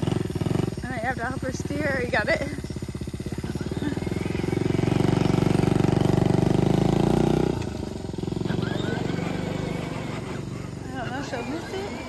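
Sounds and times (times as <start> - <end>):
minibike engine running: 0.0 - 12.0.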